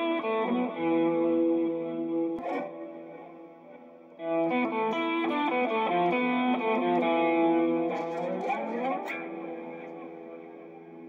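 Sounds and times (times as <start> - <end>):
electric guitar playing: 0.0 - 11.0.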